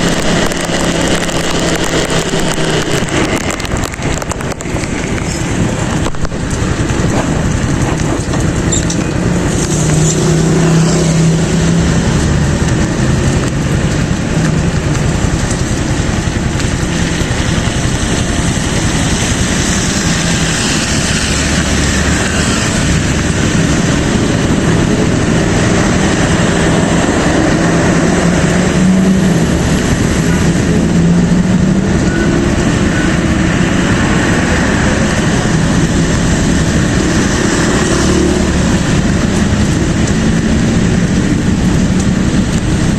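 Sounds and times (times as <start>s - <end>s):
motorcycle engine drone: 0.0s - 42.9s
wind and road noise: 0.0s - 42.9s.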